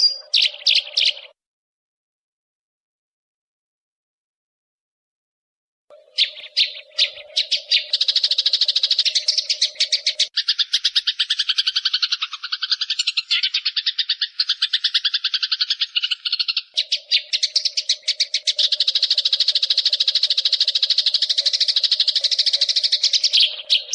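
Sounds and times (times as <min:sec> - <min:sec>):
sparrows chattering harshly: 0:00.0 - 0:01.4, 0:05.9 - 0:23.9.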